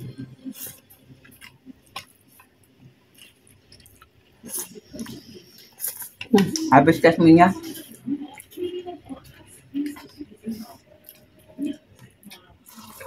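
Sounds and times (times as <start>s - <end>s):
person chewing and slurping: 0.0s - 13.0s.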